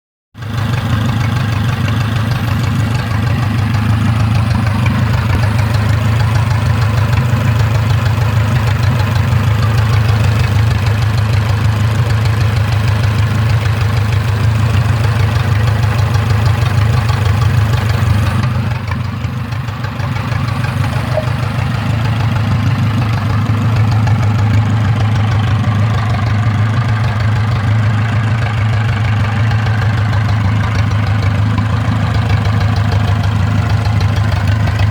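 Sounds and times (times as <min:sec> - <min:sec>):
engine running steadily: 0:00.4 - 0:34.9.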